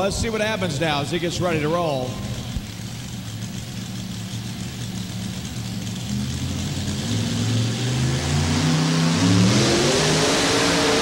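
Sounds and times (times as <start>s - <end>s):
tractor engine revving: 0.0s - 11.0s.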